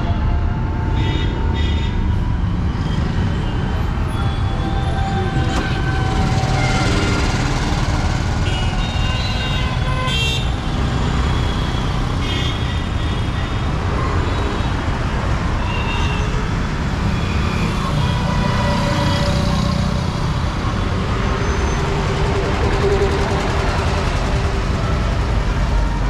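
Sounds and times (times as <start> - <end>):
traffic engines running: 0.0 - 26.0.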